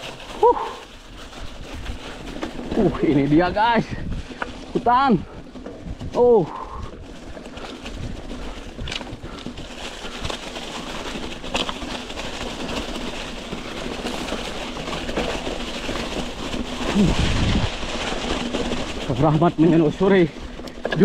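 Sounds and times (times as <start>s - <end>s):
bike clicks and rattles: 0.0s - 21.0s
bike tyres rumbling on trail: 0.0s - 21.0s.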